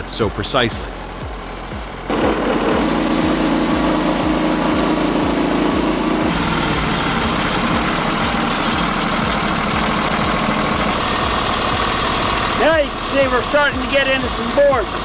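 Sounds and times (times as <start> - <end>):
saw engine running under load: 0.0 - 15.0.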